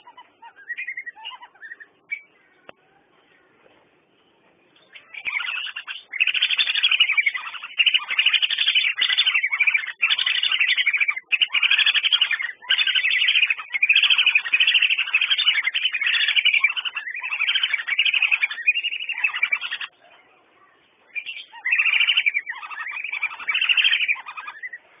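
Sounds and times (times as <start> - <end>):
ducks whistling: 0.0 - 2.3, 4.9 - 19.9, 21.1 - 24.9.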